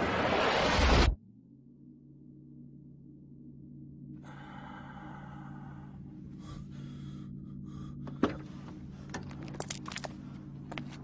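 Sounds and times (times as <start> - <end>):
low soundtrack drone: 0.4 - 11.0.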